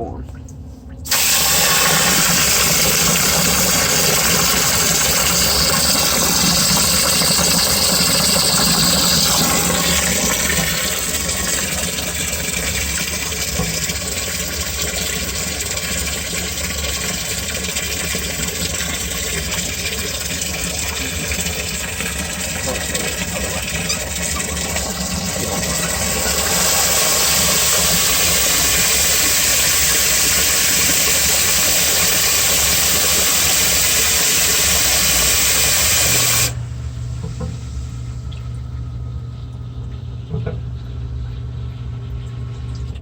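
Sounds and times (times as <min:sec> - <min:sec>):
sump pump motor hum: 0:00.0 - 0:43.0
water pouring into a pit: 0:01.1 - 0:36.6.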